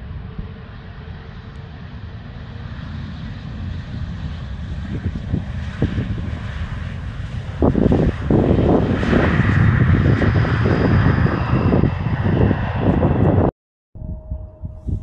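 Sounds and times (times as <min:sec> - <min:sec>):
jet engines landing: 0:00.0 - 0:13.5
wind buffeting microphone: 0:00.0 - 0:15.0.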